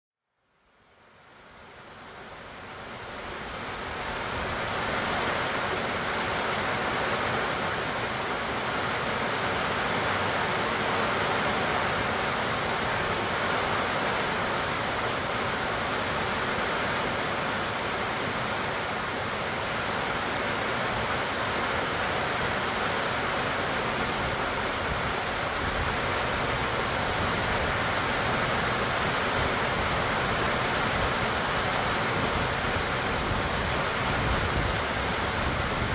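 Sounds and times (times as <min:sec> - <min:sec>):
rain on leaves and grass: 0:00.4 - 0:35.9.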